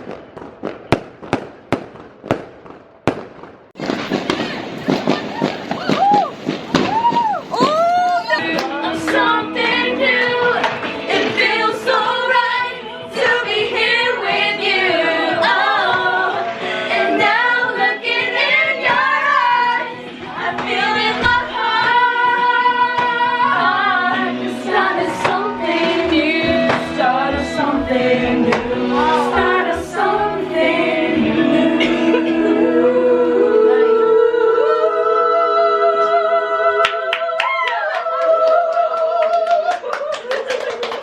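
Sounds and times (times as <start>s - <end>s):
woman singing: 4.2s - 40.4s.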